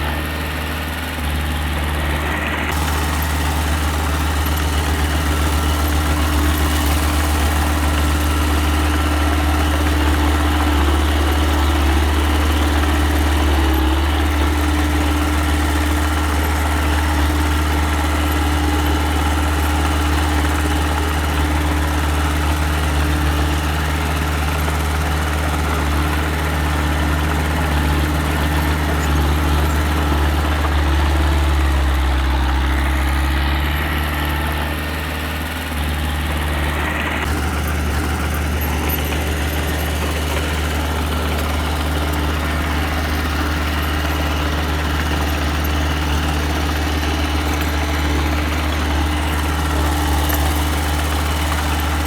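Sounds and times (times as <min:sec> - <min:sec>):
heavy machinery engine humming: 0:00.0 - 0:52.0.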